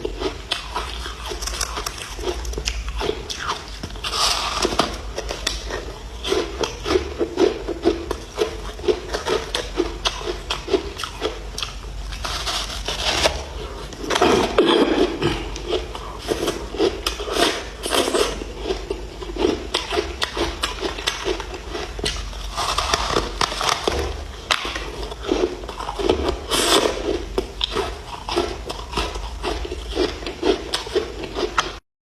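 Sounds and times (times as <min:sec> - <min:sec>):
ice crunching while chewed: 0:00.0 - 0:31.8.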